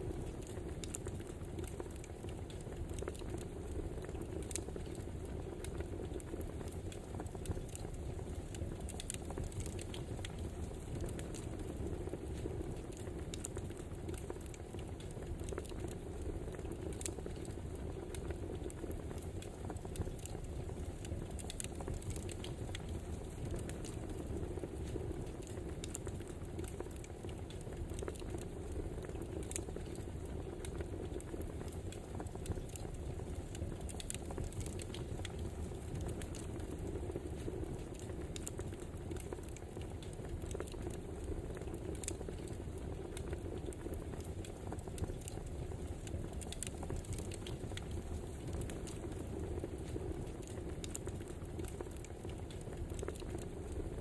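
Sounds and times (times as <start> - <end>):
fire popping and snapping: 0.0 - 54.0
firewood burning hiss and rumble: 0.0 - 54.0.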